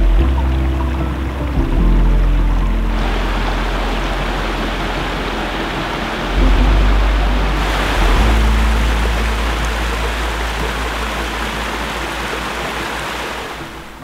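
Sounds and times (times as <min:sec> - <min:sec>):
deep bass music tones: 0:00.0 - 0:14.0
water rushing over rocks: 0:00.0 - 0:14.0.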